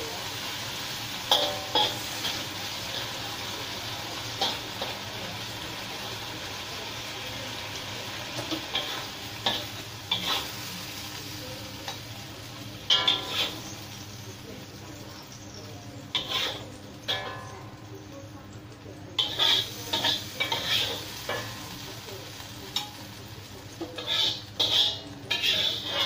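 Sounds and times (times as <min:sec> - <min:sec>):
beans sizzling in a wok: 0:00.0 - 0:26.0
metal spatula scraping wok: 0:00.3 - 0:05.5, 0:08.2 - 0:15.4, 0:16.0 - 0:17.9, 0:19.2 - 0:26.0.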